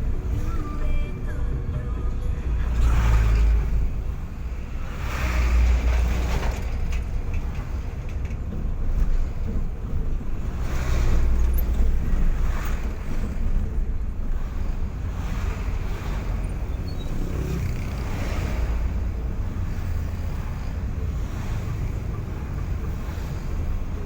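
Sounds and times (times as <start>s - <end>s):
vehicle engine and tyre rumble: 0.0s - 24.0s.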